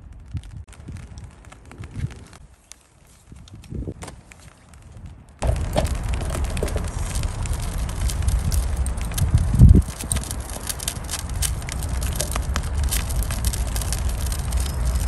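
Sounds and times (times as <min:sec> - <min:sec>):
fire crackling and snapping: 0:00.0 - 0:15.0
low fire rumble: 0:00.0 - 0:15.0.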